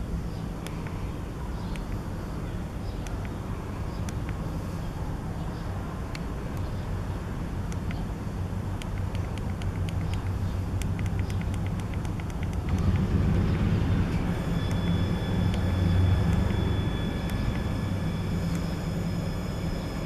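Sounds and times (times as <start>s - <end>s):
electric motor hum with ticking: 0.0s - 20.0s
high motor whine: 0.0s - 20.0s.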